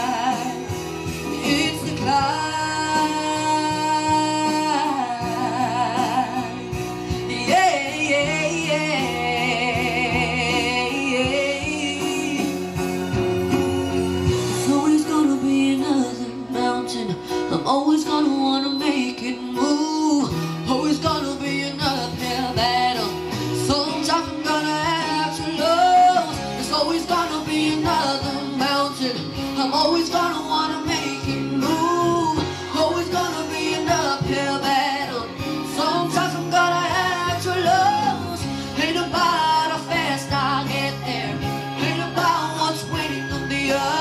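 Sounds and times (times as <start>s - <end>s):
backing music: 0.0s - 44.0s
person singing pop ballad: 0.0s - 44.0s.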